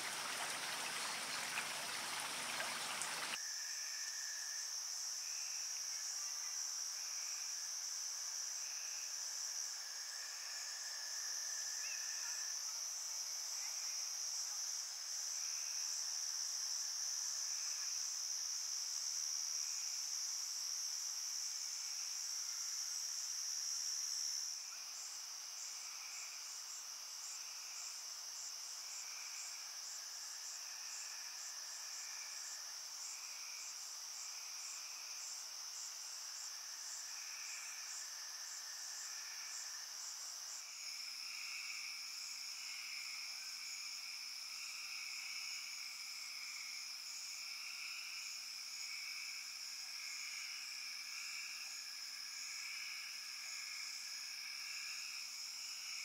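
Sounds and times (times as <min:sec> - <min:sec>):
high-pitched insect trill: 0:00.0 - 0:56.0
insect chirps: 0:00.0 - 0:56.0.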